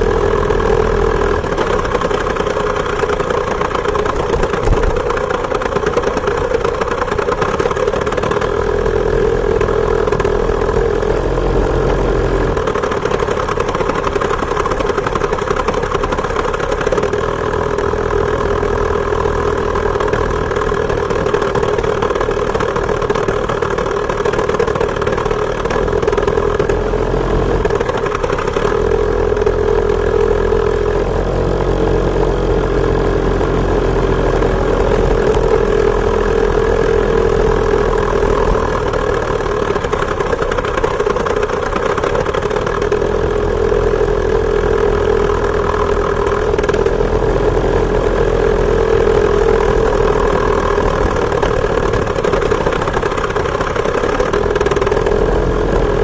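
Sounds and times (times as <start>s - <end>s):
two-stroke moped engine running: 0.0s - 56.0s.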